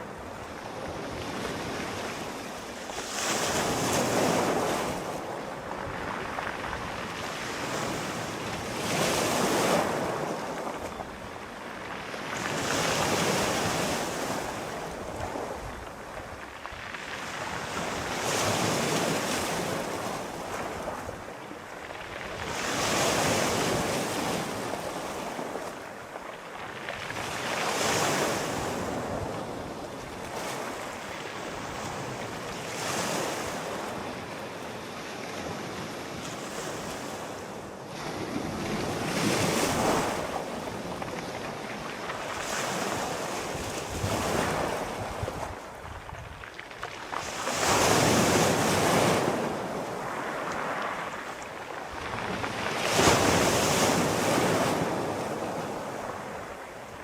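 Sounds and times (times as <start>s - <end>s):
sea waves breaking ashore: 0.0s - 57.0s
wind noise: 0.0s - 57.0s.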